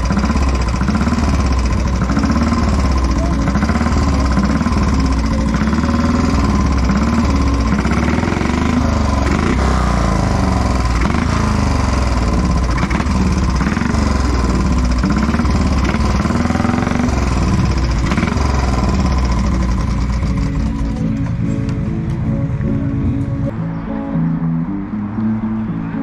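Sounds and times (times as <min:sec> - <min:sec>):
single-cylinder engine revving: 0:00.0 - 0:22.2.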